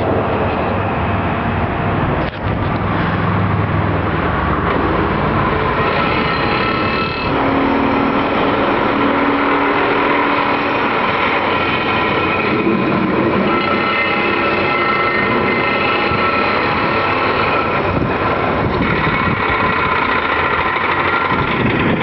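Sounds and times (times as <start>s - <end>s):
diesel engine running: 0.0s - 22.0s
vibratory pile driver rattling drone: 1.9s - 22.0s.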